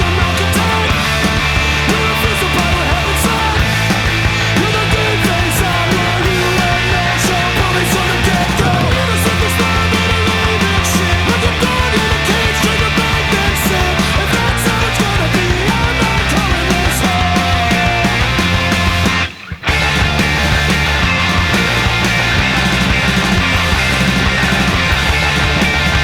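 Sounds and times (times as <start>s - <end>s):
loud rock music: 0.0s - 26.0s.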